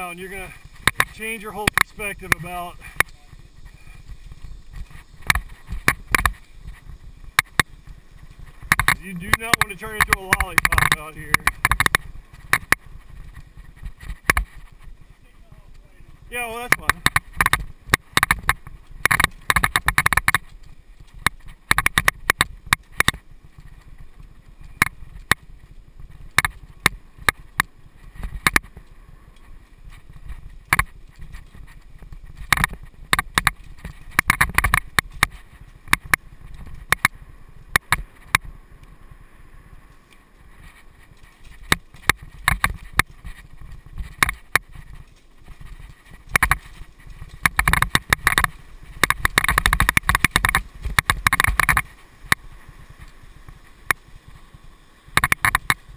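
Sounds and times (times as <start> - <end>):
tyres rumbling: 0.0 - 54.5
wind: 0.0 - 55.9
bike clattering and knocking: 0.6 - 3.2, 4.1 - 14.8, 16.6 - 28.9, 29.9 - 38.5, 40.6 - 52.4.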